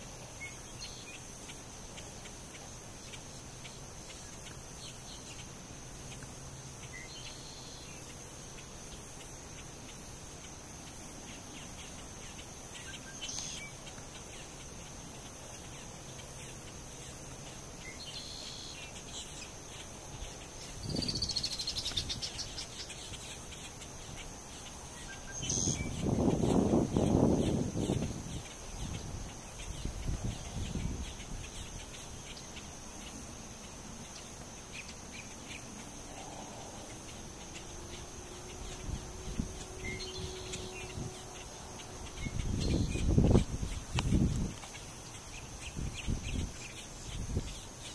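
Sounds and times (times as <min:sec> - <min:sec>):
insect drone: 0:00.0 - 0:47.9
descending rattling bird call: 0:06.8 - 0:47.9.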